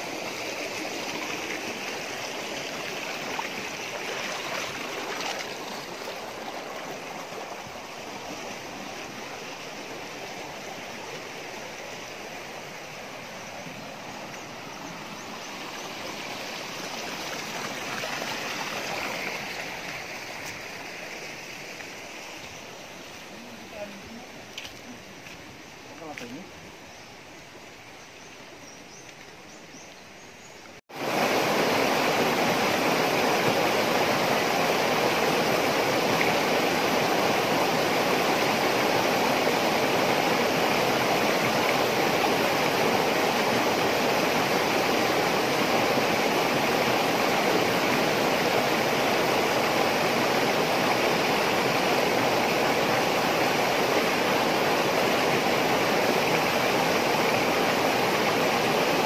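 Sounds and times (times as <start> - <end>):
river water rushing: 0.0 - 25.5, 30.9 - 59.0.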